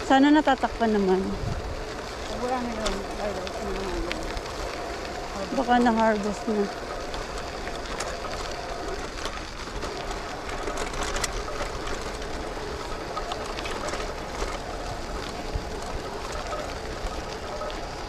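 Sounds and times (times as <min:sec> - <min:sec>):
bike frame rattling: 0:00.0 - 0:18.0
tyres crunching on gravel: 0:00.0 - 0:18.0.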